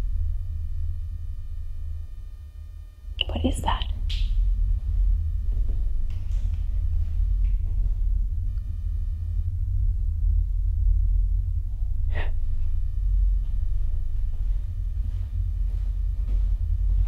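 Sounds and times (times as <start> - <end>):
faint high electronic whine: 0.0 - 17.0
low rumble: 0.0 - 17.0.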